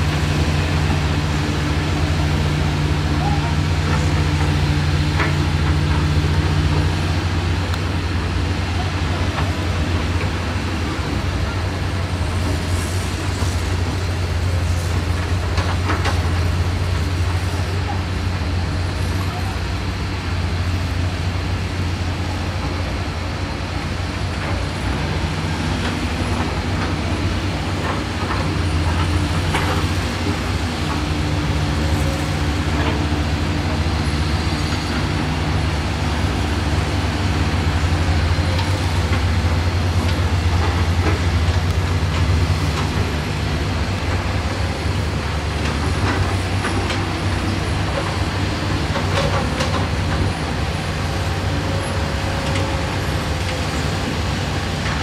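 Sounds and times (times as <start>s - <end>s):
excavator diesel engines droning: 0.0s - 55.0s.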